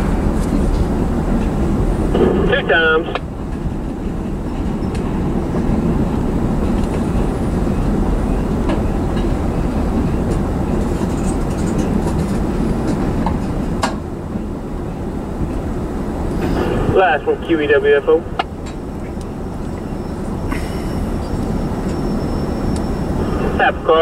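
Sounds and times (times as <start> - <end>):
steel wheels rumbling on rail: 0.0 - 24.0
train clicks and clanks: 0.0 - 24.0.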